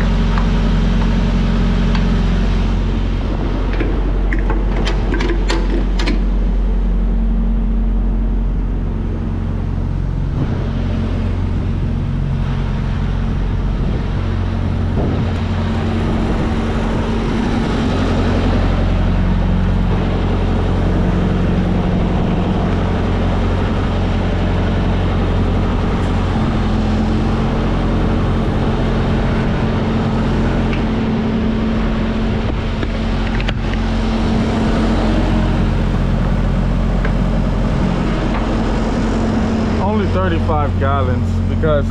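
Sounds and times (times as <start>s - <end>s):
truck diesel engine running: 0.0s - 41.9s.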